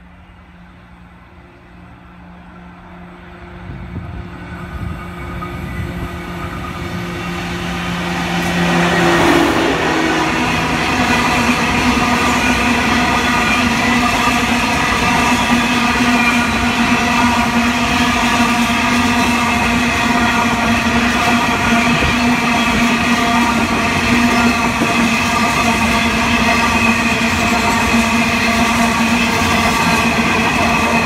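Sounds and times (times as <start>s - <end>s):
diesel locomotive engine passing: 0.0s - 31.0s
steel wheels rolling on rail: 0.6s - 31.0s.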